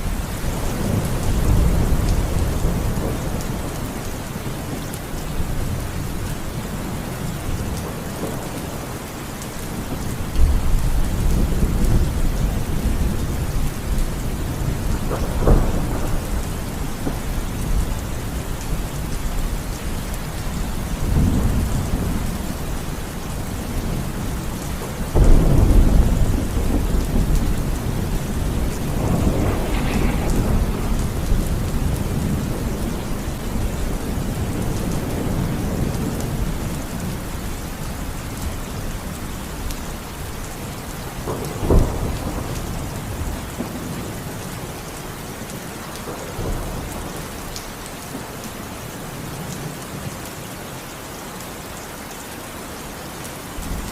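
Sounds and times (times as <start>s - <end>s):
rolling thunder: 0.0s - 9.0s, 9.7s - 40.4s, 41.0s - 44.8s
heavy rain: 0.0s - 53.9s.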